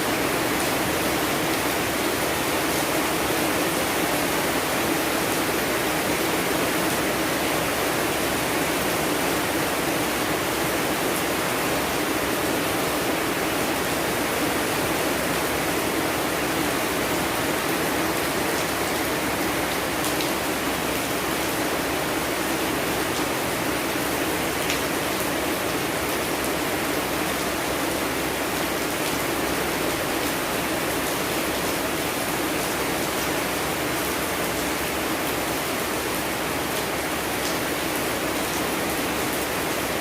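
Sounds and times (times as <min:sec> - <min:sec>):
dense rainfall: 0:00.0 - 0:40.0.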